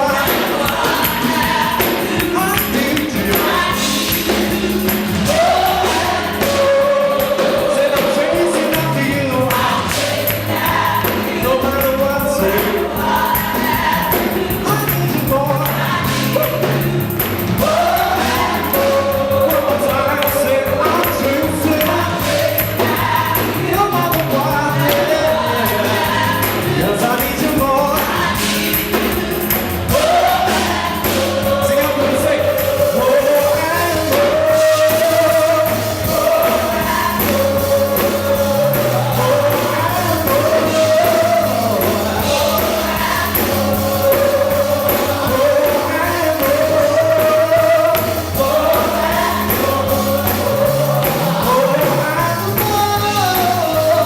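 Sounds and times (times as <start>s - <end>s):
gospel band playing: 0.0s - 54.0s
singers holding long notes: 0.0s - 54.0s.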